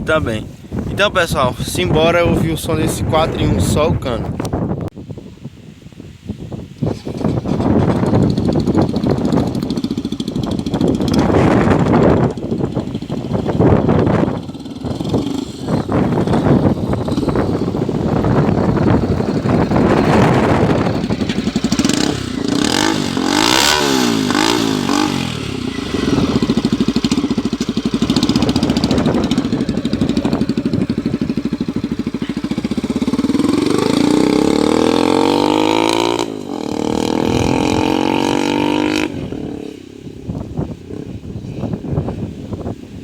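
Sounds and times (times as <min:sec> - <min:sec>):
motorcycle engine revving: 0:06.8 - 0:42.2.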